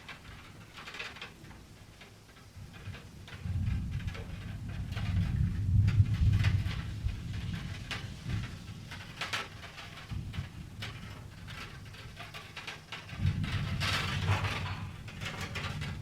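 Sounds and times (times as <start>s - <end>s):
light clicks and taps: 0.0s - 16.0s.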